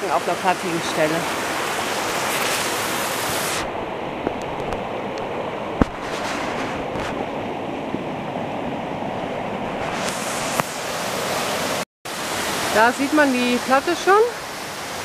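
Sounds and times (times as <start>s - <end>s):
waterfall rushing: 0.0s - 7.4s, 8.7s - 15.0s.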